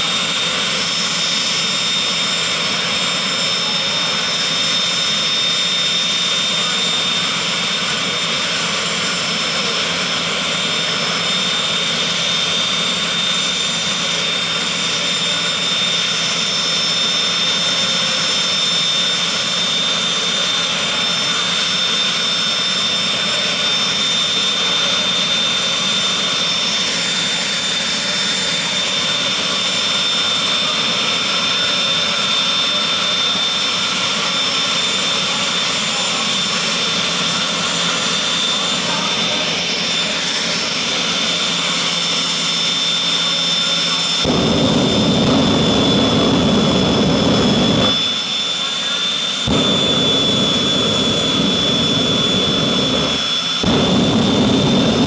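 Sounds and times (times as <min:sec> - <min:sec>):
jet turbine engines idling: 0:00.0 - 0:55.0.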